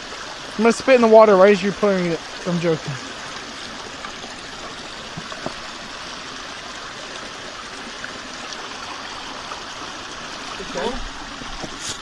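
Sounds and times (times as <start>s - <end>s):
stream trickling over stones: 0.0s - 12.0s.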